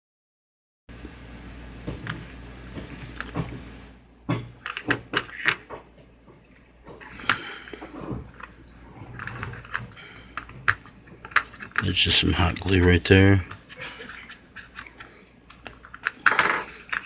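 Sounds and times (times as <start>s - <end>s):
faint steady hum: 0.9s - 17.0s.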